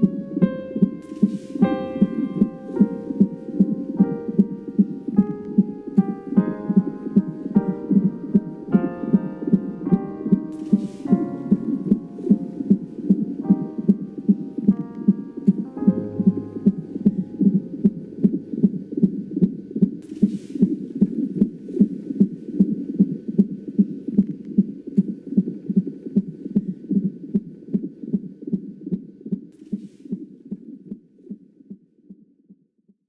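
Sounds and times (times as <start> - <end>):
heartbeat thumps: 0.0 - 29.5.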